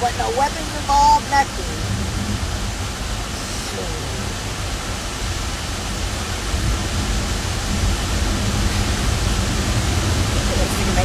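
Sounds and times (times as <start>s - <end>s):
steady rushing noise with rumble: 0.0s - 11.0s.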